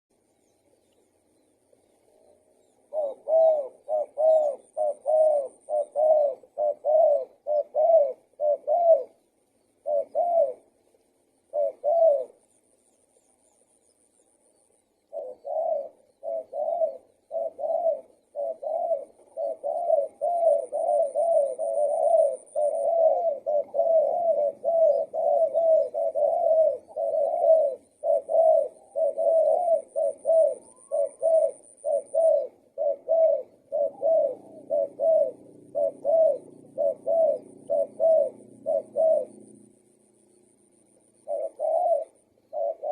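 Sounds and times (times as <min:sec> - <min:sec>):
dove cooing: 0:01.5 - 0:12.8, 0:14.4 - 0:42.9.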